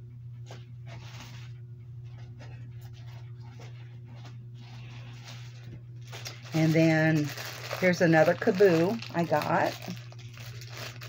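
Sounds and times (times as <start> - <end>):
low electrical hum: 0.0 - 11.0
yarn and packaging rustling: 0.5 - 11.0.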